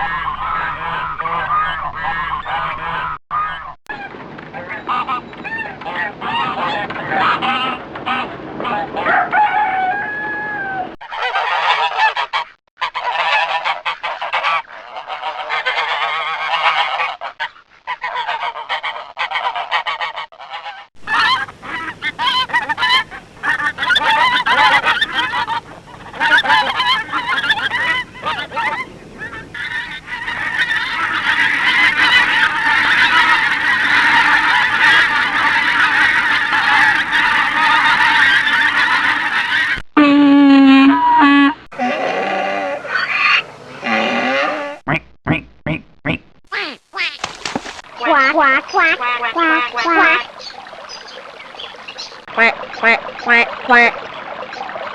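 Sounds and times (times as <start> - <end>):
ducks quacking: 0.0 - 10.2, 11.0 - 39.8, 40.6 - 54.9.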